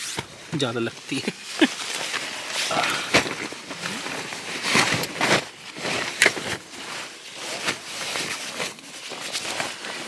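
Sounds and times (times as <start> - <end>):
padded jacket rustling: 0.0 - 10.0.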